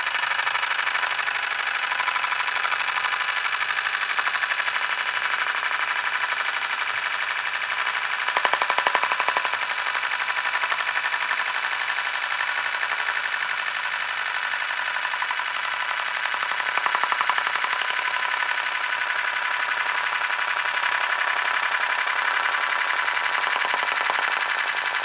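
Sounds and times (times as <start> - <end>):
spinning mechanism rattling whir: 0.0 - 25.0.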